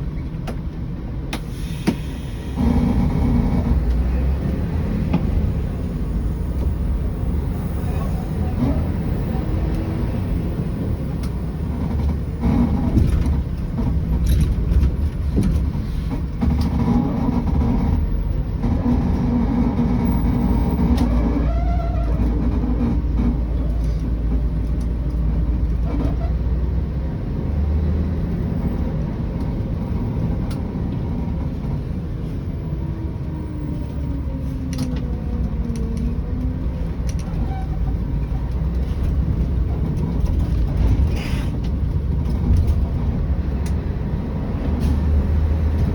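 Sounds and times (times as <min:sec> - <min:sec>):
diesel engine drone: 0:00.0 - 0:45.9.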